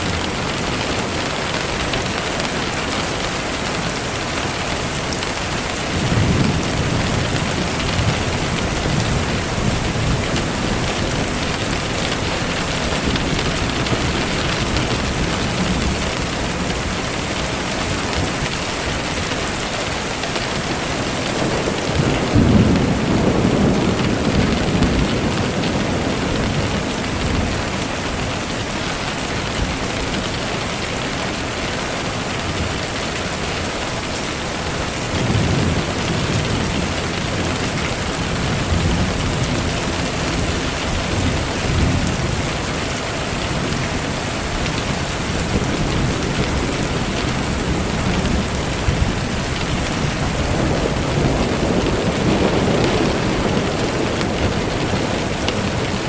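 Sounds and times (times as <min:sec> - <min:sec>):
steady rain falling: 0:00.0 - 0:56.0
thunder rumbling: 0:00.0 - 0:56.0.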